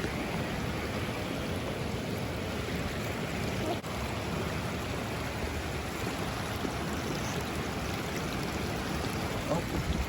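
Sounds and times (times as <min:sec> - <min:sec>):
stream flowing water: 0:00.0 - 0:10.0.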